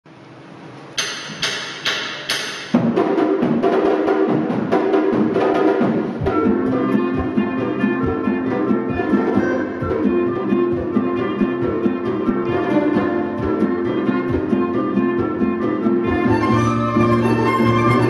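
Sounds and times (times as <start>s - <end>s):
sharp percussion strikes: 1.0s - 18.0s
folk ensemble playing lively tune: 2.9s - 18.0s.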